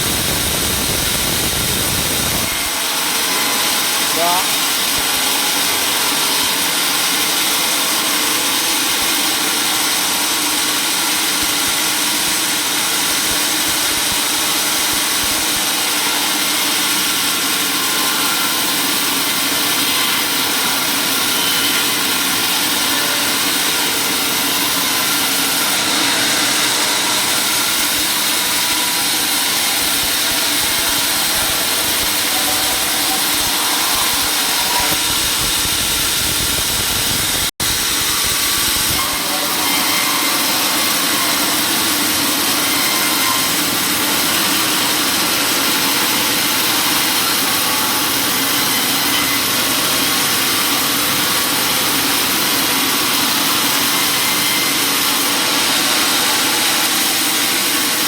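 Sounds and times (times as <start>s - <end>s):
sawmill machinery droning: 0.0s - 58.0s.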